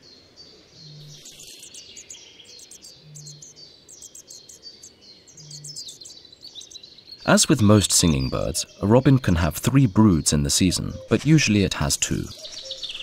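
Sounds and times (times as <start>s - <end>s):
nestlings begging chirps: 0.7s - 13.0s.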